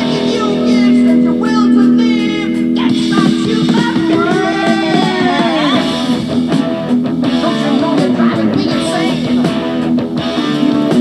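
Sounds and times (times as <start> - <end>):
guitar-led rock music: 0.0 - 11.0.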